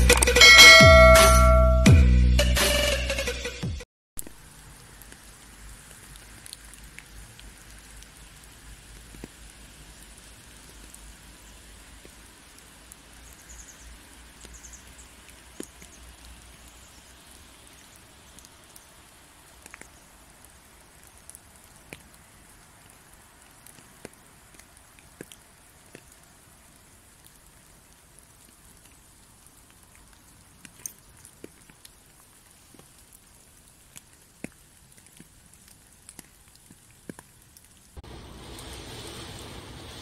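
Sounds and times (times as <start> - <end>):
drops ticking on wet leaves: 4.2 - 40.0
light rain hiss: 4.2 - 40.0.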